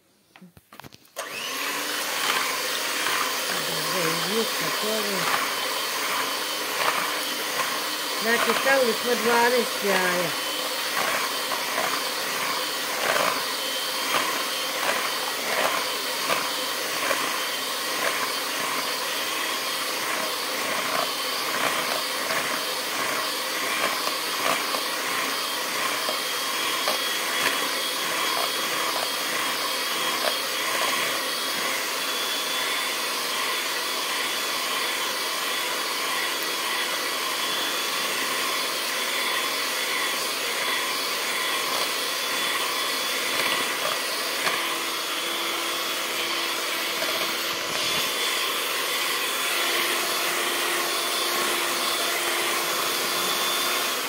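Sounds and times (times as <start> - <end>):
electric hand mixer whipping eggs: 0.8 - 54.0.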